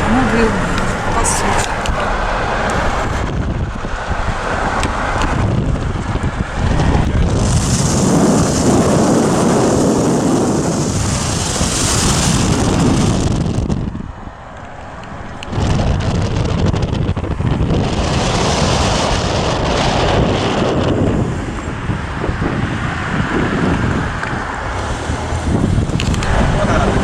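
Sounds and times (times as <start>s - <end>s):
car road and wind noise: 0.0s - 27.0s.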